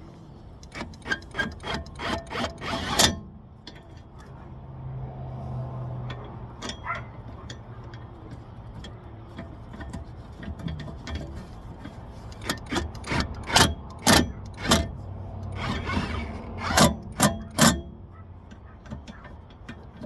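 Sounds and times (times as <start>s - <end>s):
hand tools clicking and scraping: 0.0s - 20.0s.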